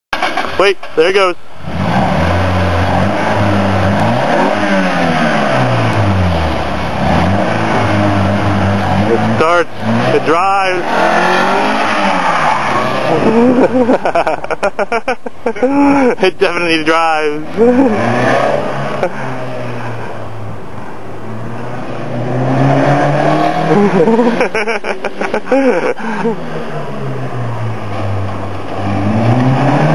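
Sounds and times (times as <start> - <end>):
car engine accelerating: 0.2 - 29.9.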